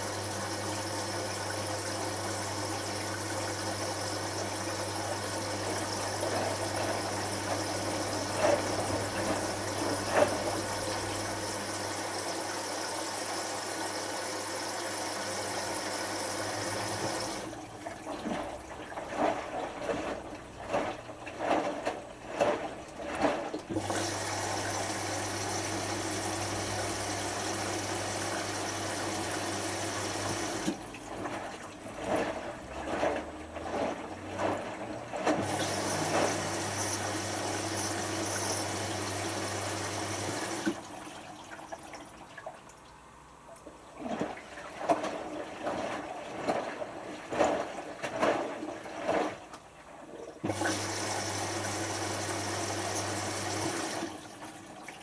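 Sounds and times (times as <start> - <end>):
water sloshing in drum: 0.0 - 13.2, 15.9 - 52.4, 53.0 - 55.0
water rushing into washing machine: 0.0 - 55.0.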